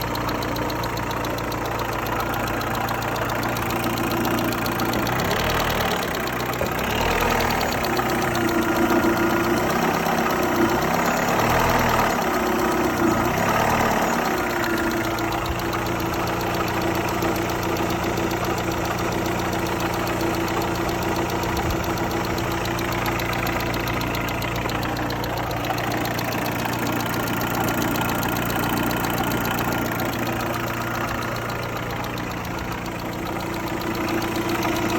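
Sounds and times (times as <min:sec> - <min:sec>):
car engine idling and revving: 0:00.0 - 0:34.9
engine knocking and ticking: 0:00.0 - 0:34.9.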